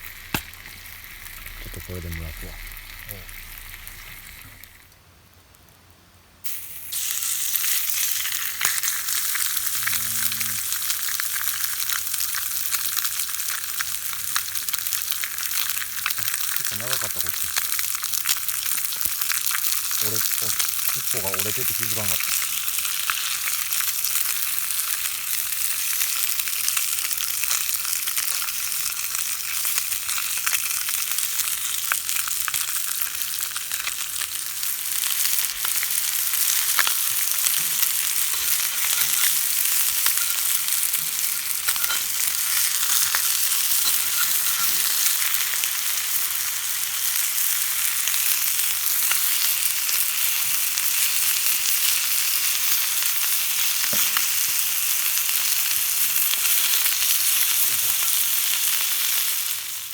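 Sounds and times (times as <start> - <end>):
food sizzling in hot fat: 0.0 - 5.8, 6.4 - 59.9.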